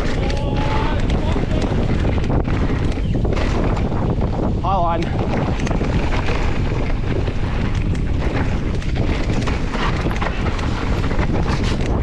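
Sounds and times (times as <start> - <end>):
bike clicks and rattles: 0.0 - 12.0
wind rushing over microphone: 0.0 - 12.0.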